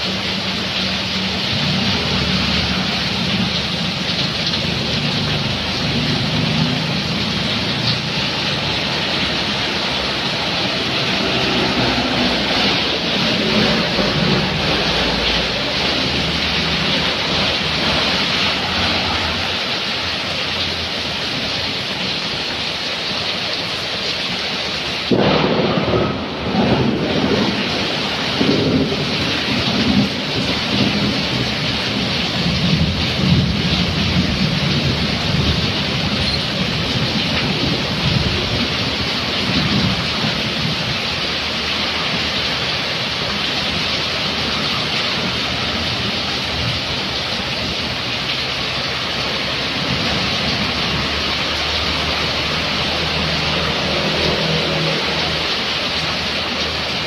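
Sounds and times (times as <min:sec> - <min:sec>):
heavy rain pouring: 0:00.0 - 0:57.0
vehicles swishing through water: 0:00.0 - 0:57.0.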